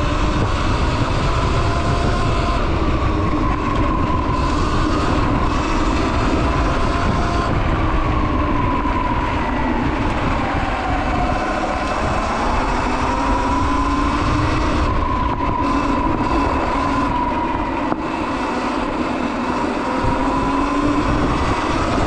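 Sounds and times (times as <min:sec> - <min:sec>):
electric motor whine: 0:00.0 - 0:22.0
wind noise: 0:00.0 - 0:22.0.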